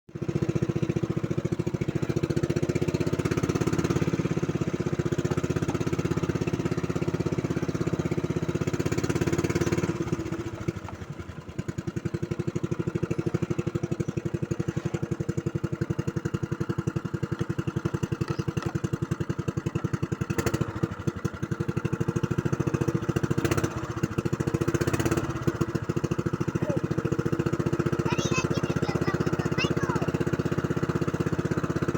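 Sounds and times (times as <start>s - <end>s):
small engine running: 0.1s - 31.9s.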